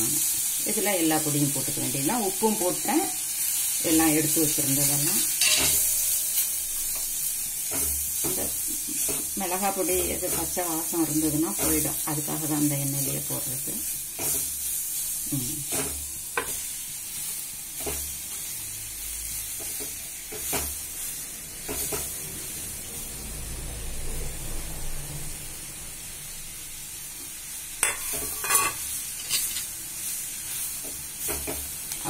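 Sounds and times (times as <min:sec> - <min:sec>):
food sizzling in hot oil: 0:00.0 - 0:32.0.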